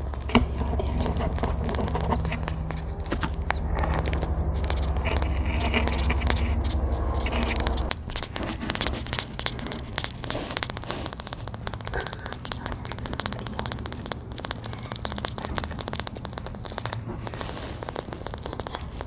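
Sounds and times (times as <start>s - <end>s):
fingers rubbing fur: 0.0s - 19.0s
kitten purring: 0.0s - 19.0s.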